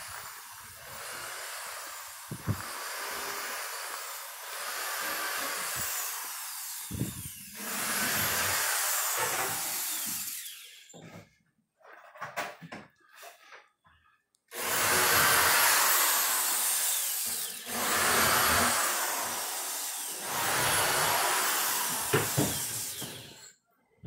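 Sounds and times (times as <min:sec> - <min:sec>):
cordless drill into wood: 0:00.0 - 0:11.0, 0:14.5 - 0:23.6.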